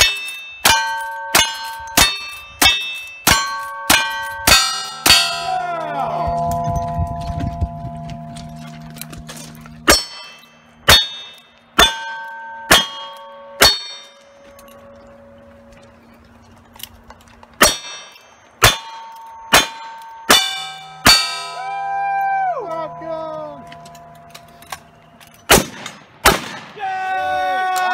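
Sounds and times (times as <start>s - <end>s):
steel plate clanging: 0.0s - 15.9s, 17.2s - 21.8s, 22.6s - 25.6s.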